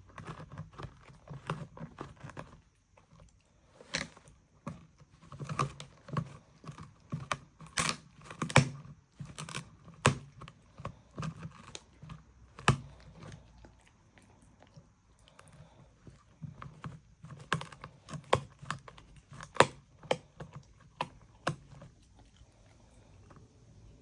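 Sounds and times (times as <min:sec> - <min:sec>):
dog crunching food: 0:00.0 - 0:23.5.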